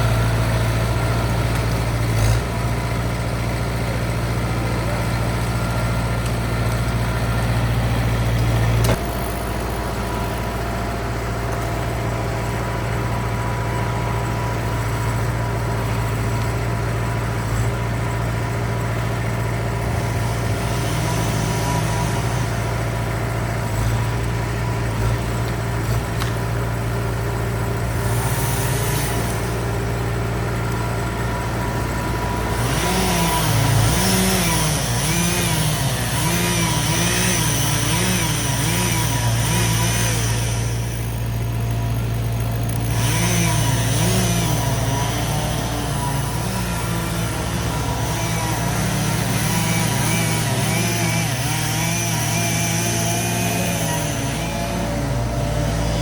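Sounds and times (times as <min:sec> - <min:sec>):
skid steer engine droning: 0:00.0 - 0:56.0.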